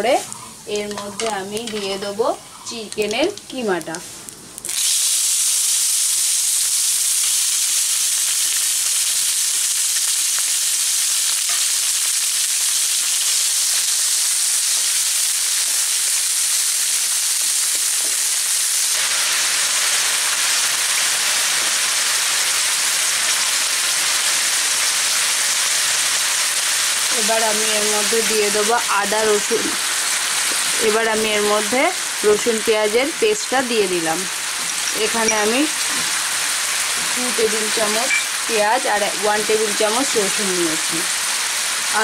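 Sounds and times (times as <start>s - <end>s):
meat sizzling in hot oil: 4.2s - 42.0s.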